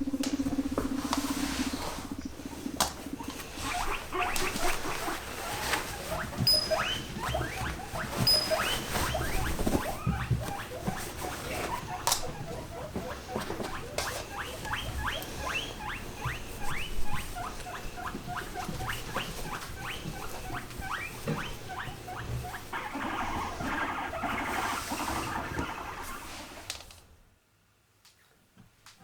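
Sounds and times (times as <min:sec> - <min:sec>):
guinea pig squealing: 0:00.0 - 0:26.9.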